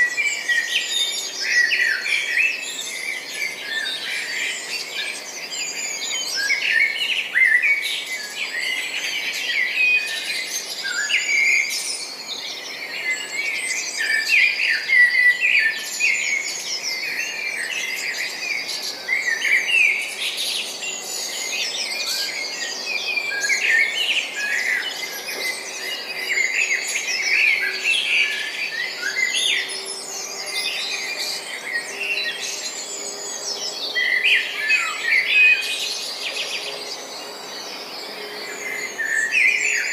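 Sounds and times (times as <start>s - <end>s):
many birds chirping and singing: 0.0s - 39.9s.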